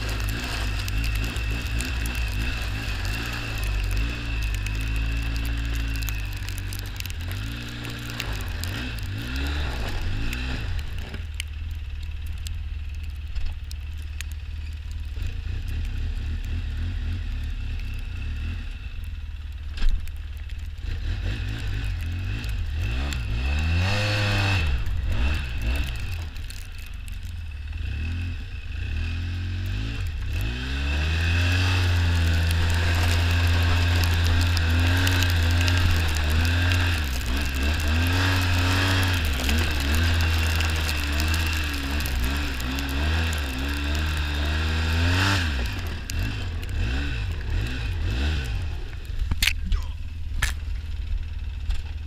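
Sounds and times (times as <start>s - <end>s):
off-road vehicle engine revving: 0.0s - 11.3s, 15.0s - 19.0s, 20.6s - 52.0s.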